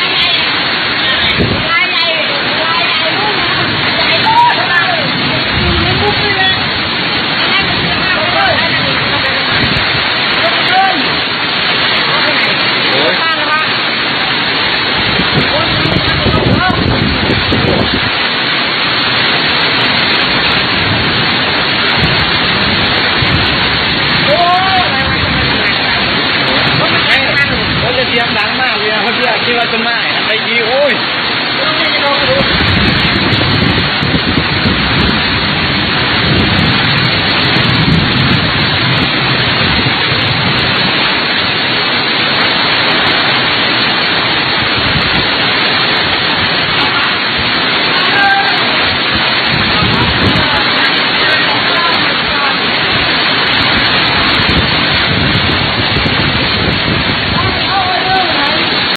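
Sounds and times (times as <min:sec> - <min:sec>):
deep rumble: 0:00.0 - 0:12.8, 0:13.6 - 0:28.6, 0:31.0 - 0:58.9
heavy rain: 0:00.0 - 0:58.9.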